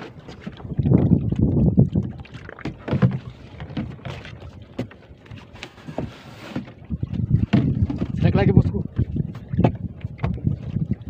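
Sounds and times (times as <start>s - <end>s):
knocks and bumps in a boat: 0.0s - 11.0s
water sloshing and dripping: 0.0s - 11.0s.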